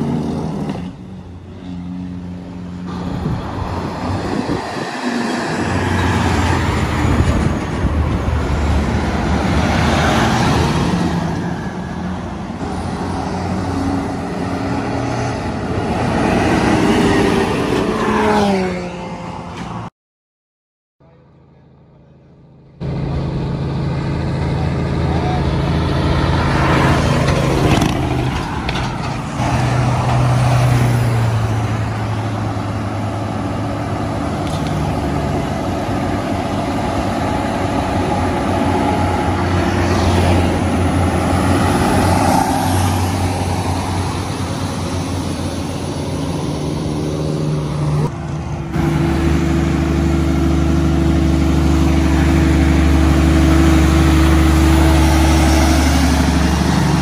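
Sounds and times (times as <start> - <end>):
cars going by: 0.0 - 19.9, 21.0 - 57.0
diesel trucks driving past: 0.0 - 19.9, 21.0 - 57.0
road and tyre noise: 0.0 - 19.9, 21.0 - 57.0.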